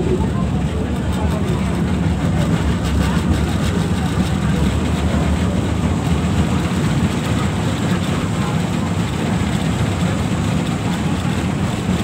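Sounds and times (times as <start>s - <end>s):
light rail train rumbling: 0.0s - 12.0s.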